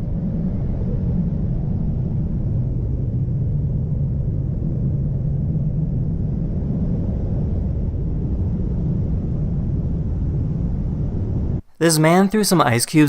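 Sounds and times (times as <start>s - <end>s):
steady low rumbling: 0.0s - 11.6s.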